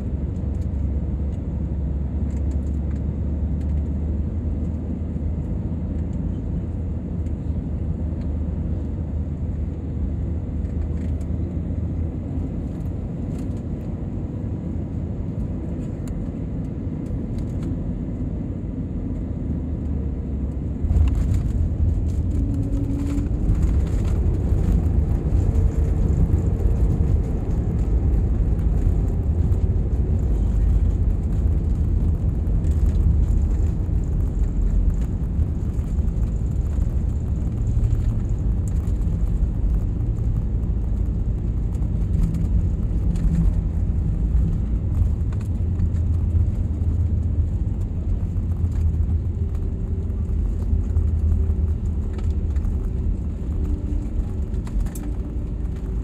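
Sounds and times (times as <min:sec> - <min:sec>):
airliner rumble on runway: 0:00.0 - 0:56.0.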